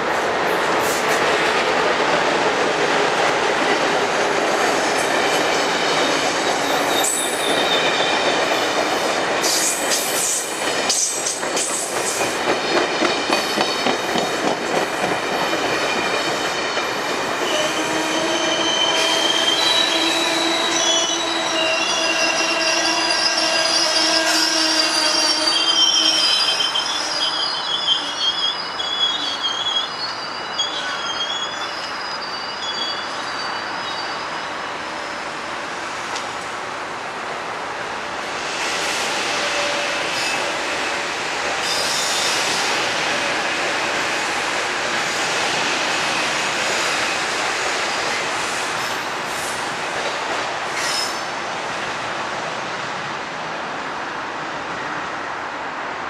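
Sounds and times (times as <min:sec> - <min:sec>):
train wheels rumbling on rails: 0:00.0 - 0:27.6, 0:33.1 - 0:55.9.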